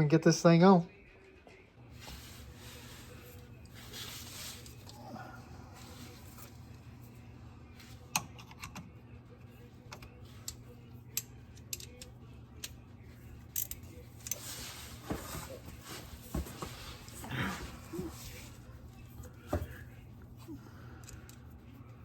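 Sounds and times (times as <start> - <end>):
steady low hum: 0.9 - 22.0.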